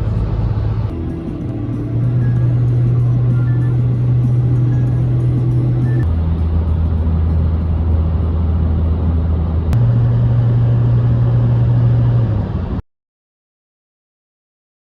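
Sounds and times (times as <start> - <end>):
heavy bass music: 0.0 - 12.4.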